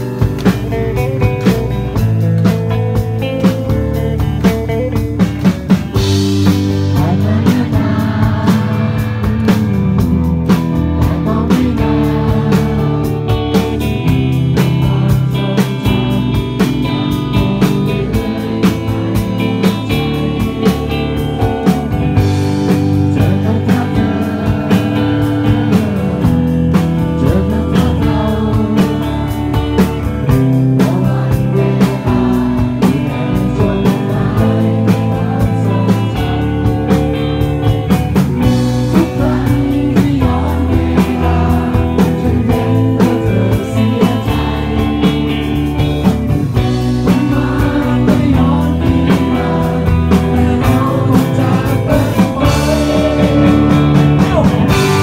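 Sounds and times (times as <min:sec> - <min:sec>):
bass guitar: 0:00.0 - 0:55.0
drums: 0:00.0 - 0:55.0
electric guitar: 0:00.0 - 0:55.0
man singing: 0:05.9 - 0:55.0.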